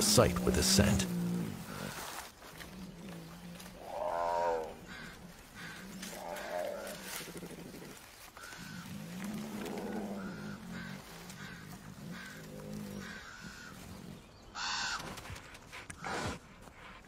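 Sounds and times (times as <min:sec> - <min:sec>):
ravens croaking: 0:00.0 - 0:16.9.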